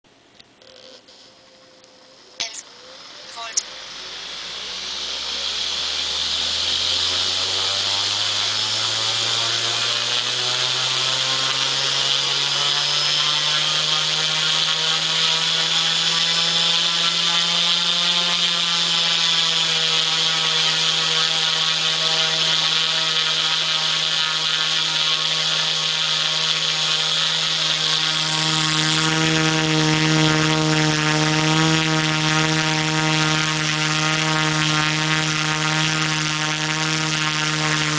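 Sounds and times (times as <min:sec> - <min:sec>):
multicopter motors and propellers: 0:00.4 - 0:37.9.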